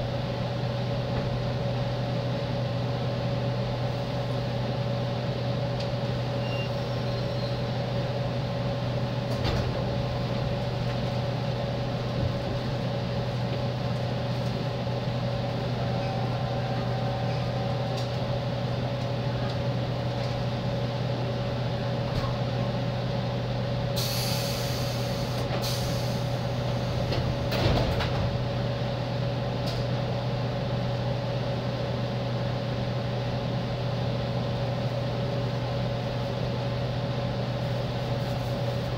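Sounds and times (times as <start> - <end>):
train interior hum: 0.0 - 38.9.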